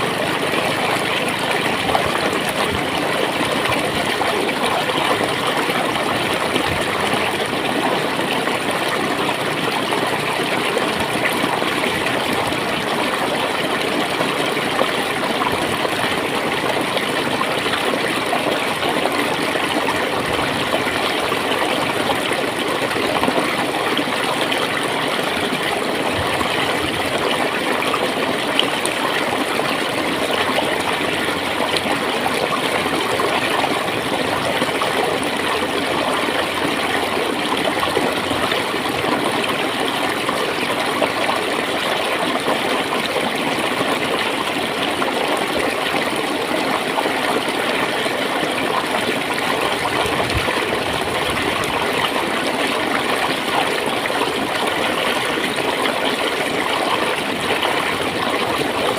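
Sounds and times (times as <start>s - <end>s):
stream water gurgling: 0.0s - 58.9s.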